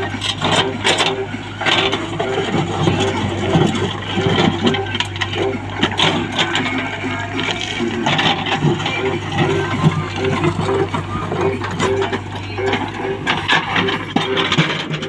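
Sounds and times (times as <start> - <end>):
diesel engine running: 0.0 - 15.0
voices: 0.0 - 15.0.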